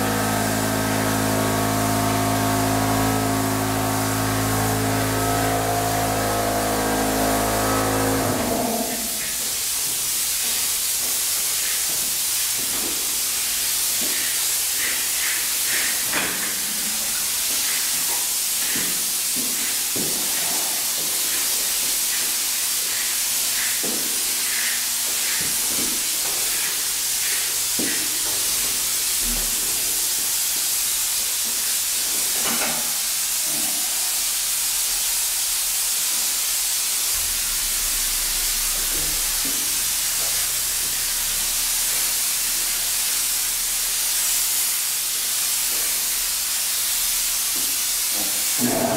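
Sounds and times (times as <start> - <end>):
spray gun hissing: 0.0 - 48.9.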